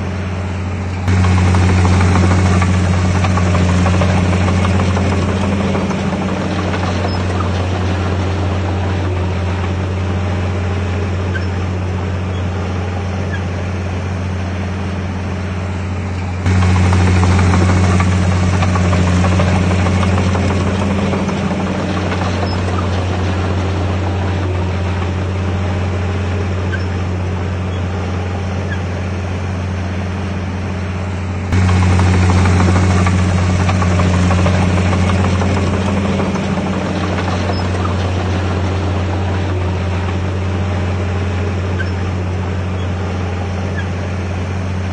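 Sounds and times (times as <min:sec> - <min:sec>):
bulldozer diesel engine droning: 0:00.0 - 0:44.9.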